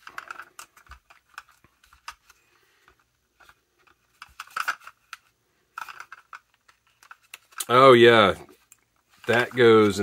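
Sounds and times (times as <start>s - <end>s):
plastic parts clicking and scraping: 0.0s - 7.8s, 8.4s - 10.0s.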